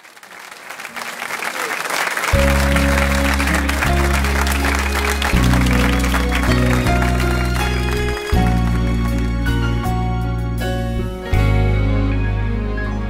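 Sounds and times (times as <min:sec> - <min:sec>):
gospel instrumental music: 0:02.2 - 0:13.0.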